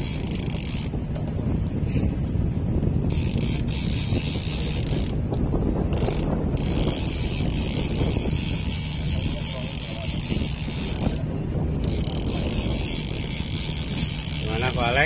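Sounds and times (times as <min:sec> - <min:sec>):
fishing reel ratchet clicks: 0:00.0 - 0:01.3, 0:02.8 - 0:05.2, 0:05.9 - 0:15.0.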